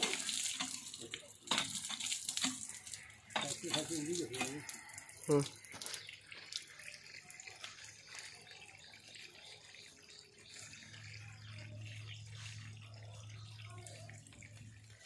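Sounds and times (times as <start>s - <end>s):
water splashing from pump spout: 0.0s - 15.0s.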